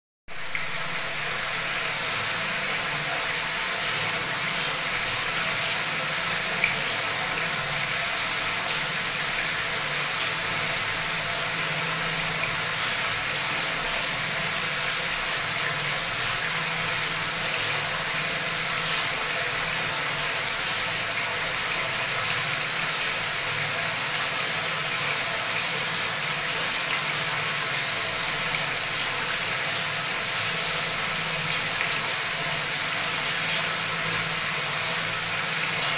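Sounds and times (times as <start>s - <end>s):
tap water pouring into tub: 0.3s - 35.9s.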